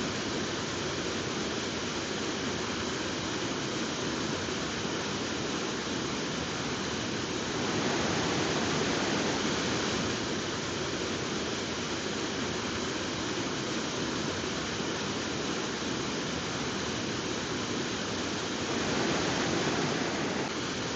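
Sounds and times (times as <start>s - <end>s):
waterfall rushing onto rocks: 0.0s - 20.9s.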